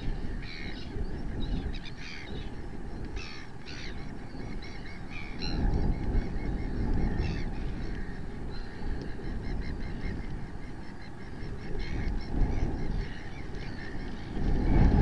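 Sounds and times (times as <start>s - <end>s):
gulls calling: 0.0s - 15.0s
wind buffeting microphone: 0.0s - 15.0s.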